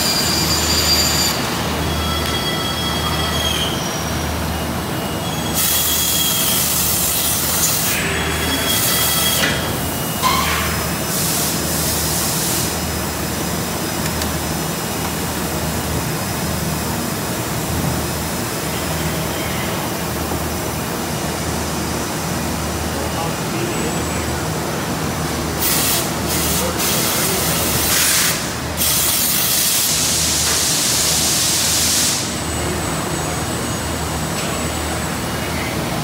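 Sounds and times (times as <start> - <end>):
factory machinery humming: 0.0 - 36.0.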